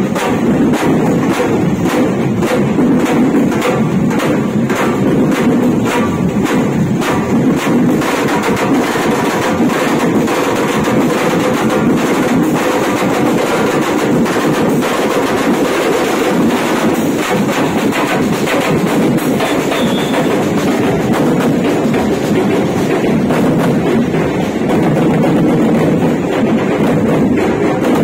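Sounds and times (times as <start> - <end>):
marching drum band playing: 0.0 - 28.0.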